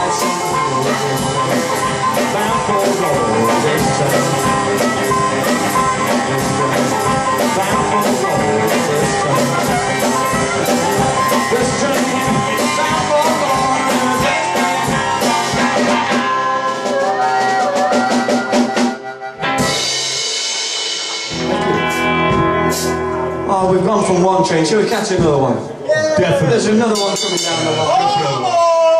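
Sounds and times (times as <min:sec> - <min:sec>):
blues band playing shuffle: 0:00.0 - 0:24.4, 0:26.1 - 0:28.9.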